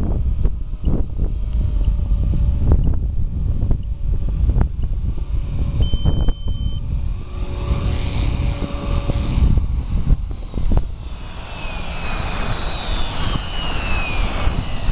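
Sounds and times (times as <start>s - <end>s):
high whine falling in pitch: 0.0s - 14.9s
rc helicopter motor and rotor whine: 0.0s - 14.9s
wind noise on microphone: 0.0s - 14.9s.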